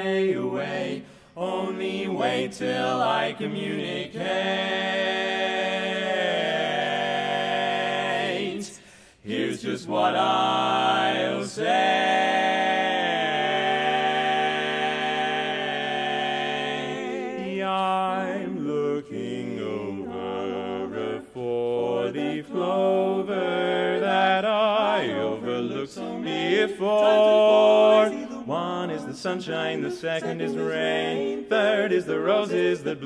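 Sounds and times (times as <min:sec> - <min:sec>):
male quartet singing a cappella: 0:00.0 - 0:33.0.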